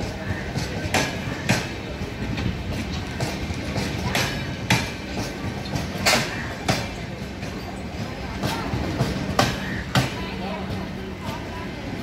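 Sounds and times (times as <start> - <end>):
train wheels clacking over rail joint: 0.0 - 10.4.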